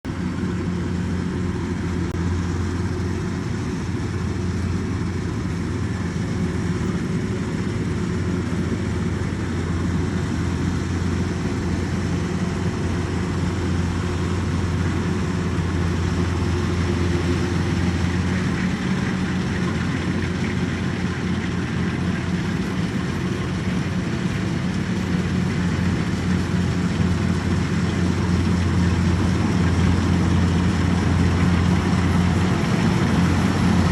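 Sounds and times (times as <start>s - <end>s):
combine harvester engine hum: 0.0s - 33.9s.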